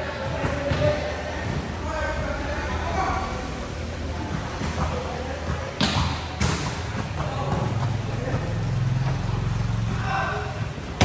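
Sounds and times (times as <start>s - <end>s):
vehicle engine humming: 1.0s - 11.0s.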